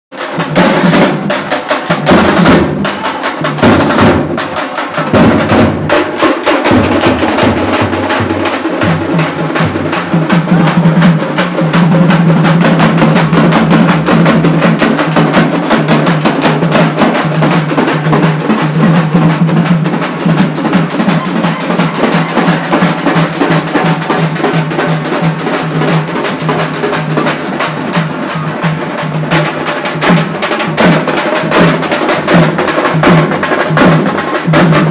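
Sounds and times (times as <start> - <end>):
group of drums beating fast: 0.1 - 34.9.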